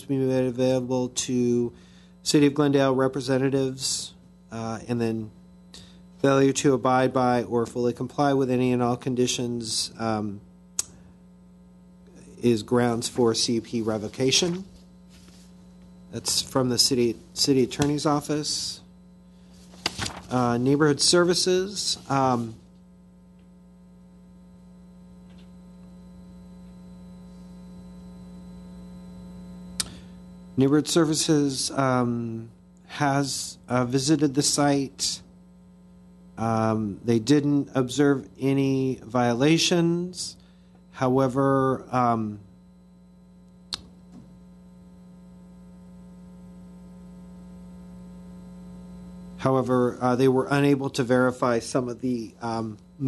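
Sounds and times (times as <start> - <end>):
electrical mains hum: 0.0 - 53.0.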